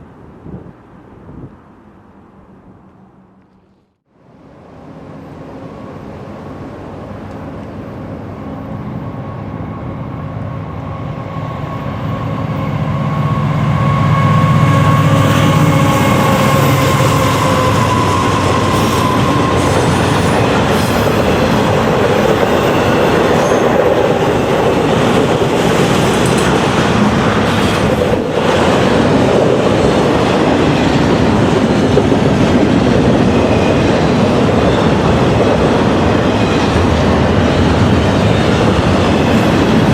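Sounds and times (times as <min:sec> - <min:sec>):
diesel locomotive engines: 0:00.0 - 0:39.9
train wheels on rails: 0:05.2 - 0:39.9.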